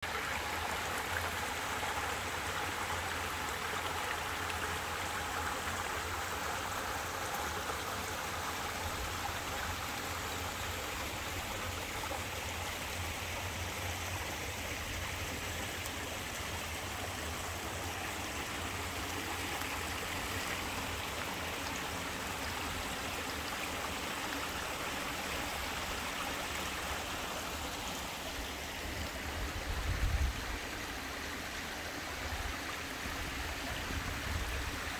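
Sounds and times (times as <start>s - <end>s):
small waterfall splashing: 0.0s - 34.9s.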